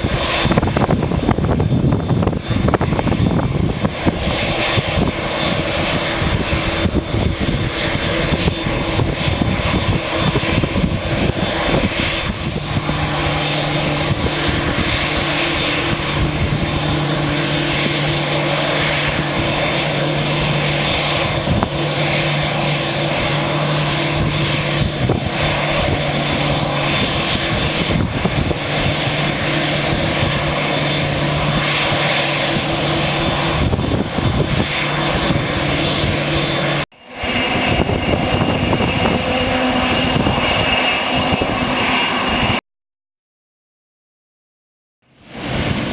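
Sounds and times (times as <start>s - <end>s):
jet engines whining: 0.0s - 42.6s, 45.1s - 45.9s
wind rumbling on microphone: 0.0s - 42.6s, 45.1s - 45.9s.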